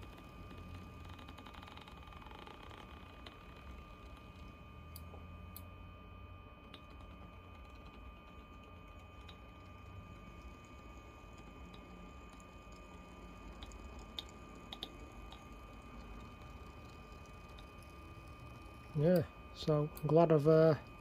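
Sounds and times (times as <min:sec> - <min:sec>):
faint motor whine: 0:00.0 - 0:21.0.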